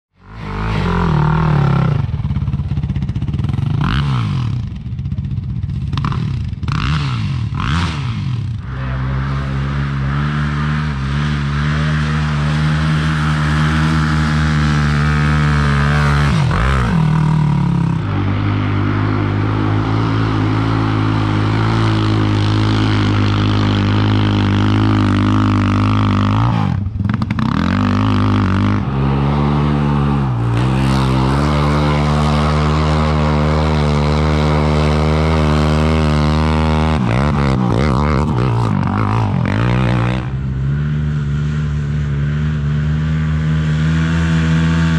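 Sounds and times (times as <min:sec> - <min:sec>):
atv engine revving hard: 0:00.2 - 0:44.9.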